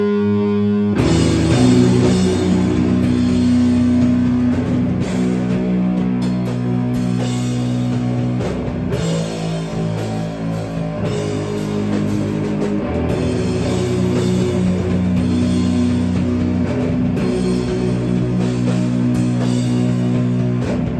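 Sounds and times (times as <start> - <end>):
heavy rock band playing: 0.0 - 20.9.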